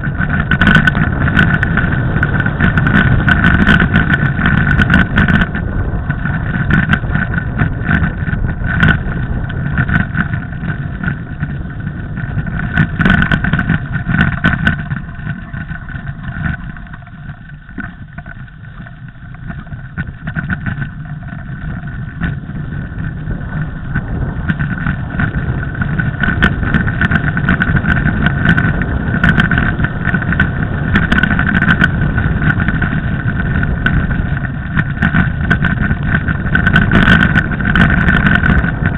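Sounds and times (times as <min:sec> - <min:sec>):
bike tyre rumble: 0:00.0 - 0:38.9
wind on microphone: 0:00.0 - 0:38.9.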